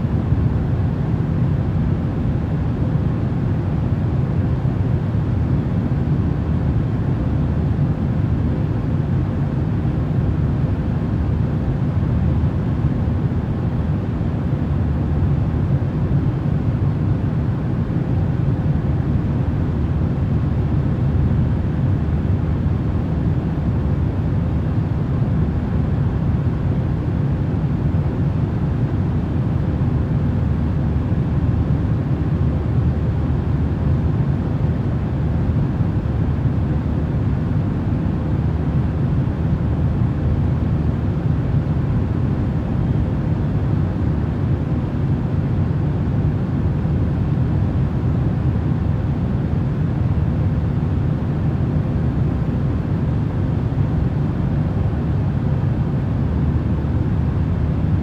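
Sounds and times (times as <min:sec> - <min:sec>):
deep rumbling white noise: 0:00.0 - 0:58.0.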